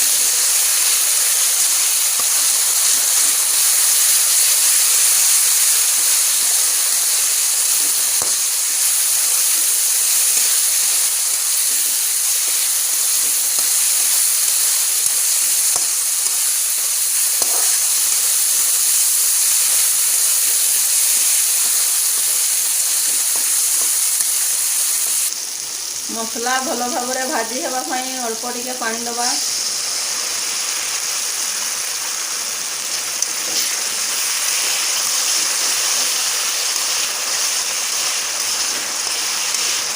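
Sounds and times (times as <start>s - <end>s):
masala sizzling in hot oil: 0.0s - 39.9s.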